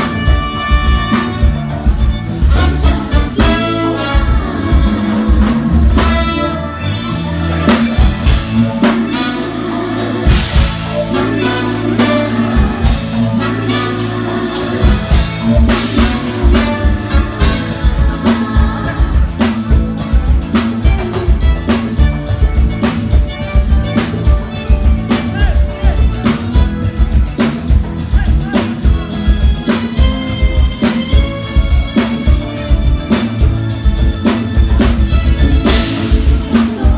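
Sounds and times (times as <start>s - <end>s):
live band playing: 0.0s - 36.9s.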